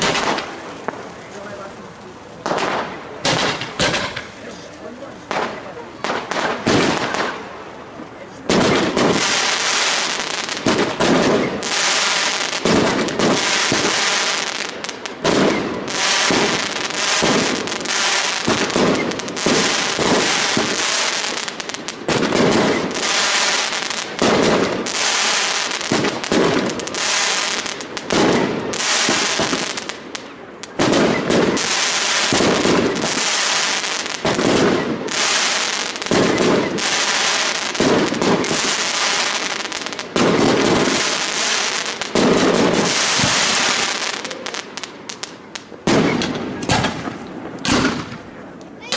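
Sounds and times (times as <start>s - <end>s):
fireworks bursting and crackling: 0.0s - 48.9s.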